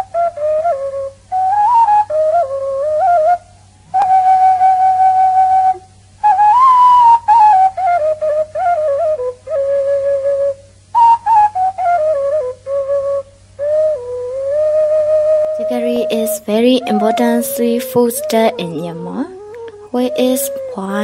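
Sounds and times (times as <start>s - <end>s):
flute-like melody: 0.0s - 21.0s.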